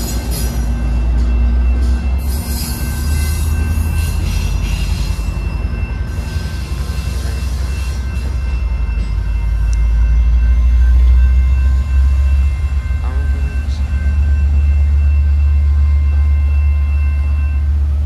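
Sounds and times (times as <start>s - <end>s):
passing train rumble: 0.0s - 18.0s
railroad crossing bell ringing: 0.0s - 18.0s.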